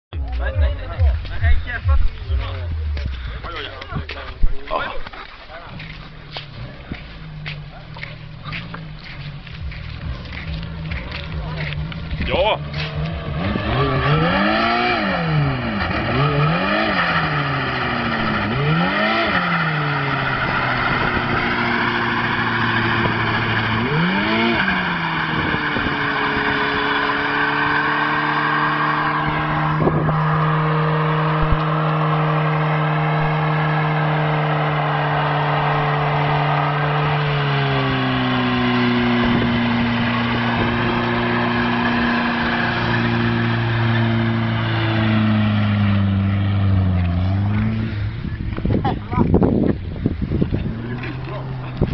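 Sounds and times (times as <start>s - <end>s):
car engine revving: 0.1s - 51.9s.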